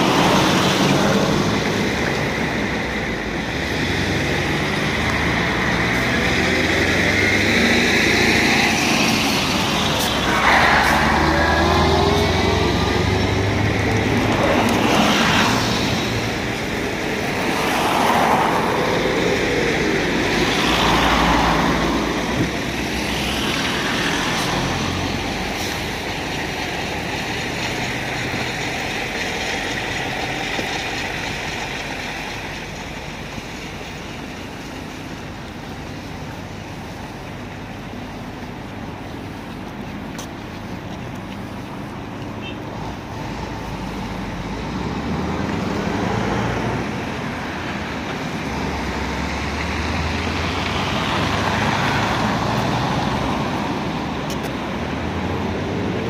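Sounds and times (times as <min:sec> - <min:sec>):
cars and trucks passing: 0:00.0 - 0:56.0.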